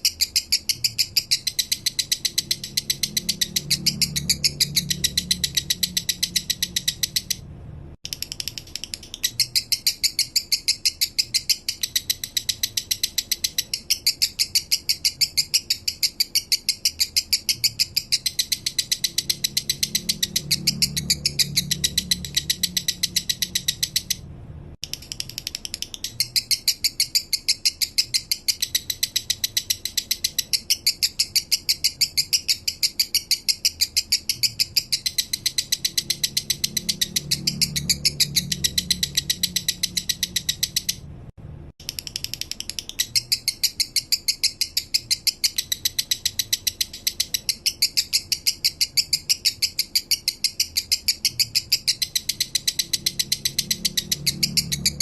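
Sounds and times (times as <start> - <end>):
lovebird chirping: 0.0 - 7.4, 8.0 - 55.0.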